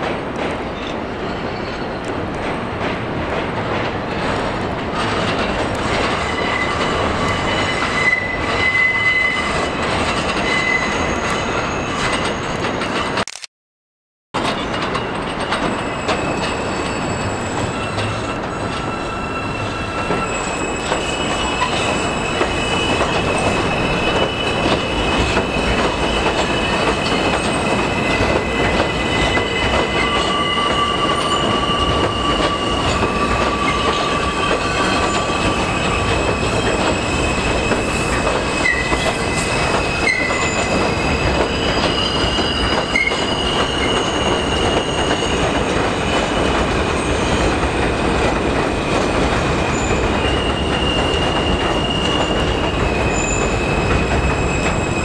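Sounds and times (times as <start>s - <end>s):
subway train rumble: 0.0s - 13.2s, 14.4s - 55.0s
wheels squealing on rails: 0.6s - 2.9s, 3.5s - 13.2s, 14.4s - 55.0s.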